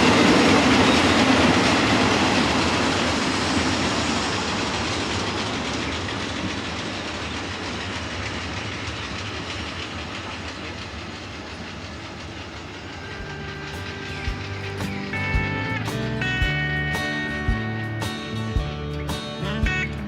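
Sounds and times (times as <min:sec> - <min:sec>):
train wagons rumbling on rails: 0:00.0 - 0:20.0.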